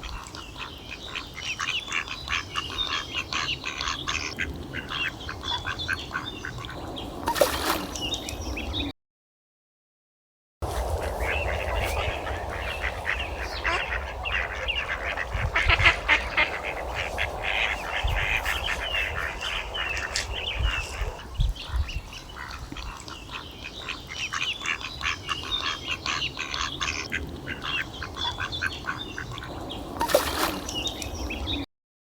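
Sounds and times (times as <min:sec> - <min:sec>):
ducks quacking: 0:00.0 - 0:08.9, 0:10.6 - 0:31.6.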